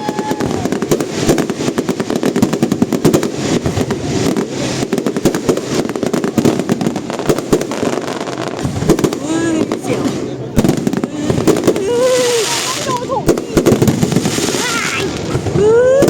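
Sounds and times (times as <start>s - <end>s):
fireworks cracking and popping: 0.0s - 16.0s.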